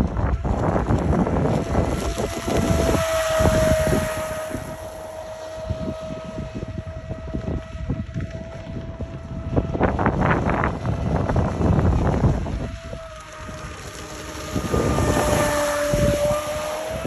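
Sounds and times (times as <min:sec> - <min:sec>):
motor boat high whine: 0:00.0 - 0:17.0
wind buffeting microphone: 0:00.0 - 0:17.0.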